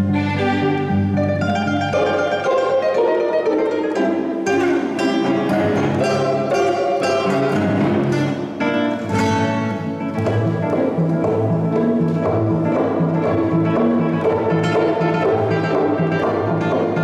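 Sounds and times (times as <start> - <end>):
classical guitar plucked chords: 0.0 - 17.0
string orchestra playing: 0.0 - 17.0.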